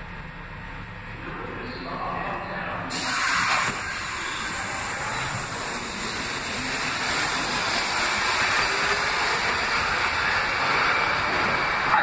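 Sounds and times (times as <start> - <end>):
subway train rumbling past: 0.0 - 12.0.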